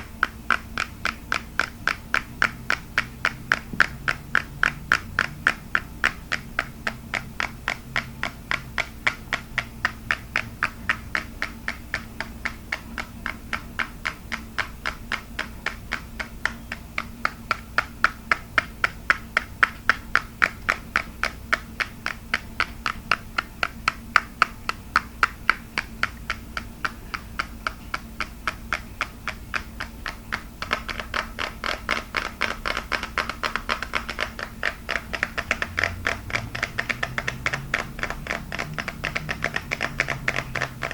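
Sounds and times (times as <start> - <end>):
fingers tapping on hard object: 0.0 - 40.9.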